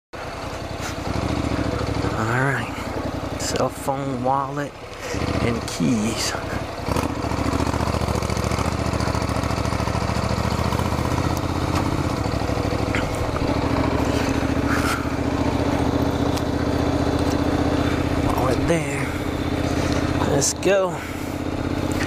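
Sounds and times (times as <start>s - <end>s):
motorcycle engine running: 0.2s - 22.0s
tyres on gravel road: 0.2s - 22.0s.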